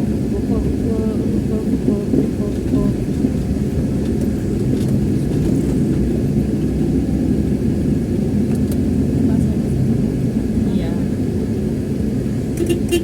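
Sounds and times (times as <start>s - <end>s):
ambulance engine rumble: 0.0s - 13.0s
tyres on road: 0.0s - 13.0s.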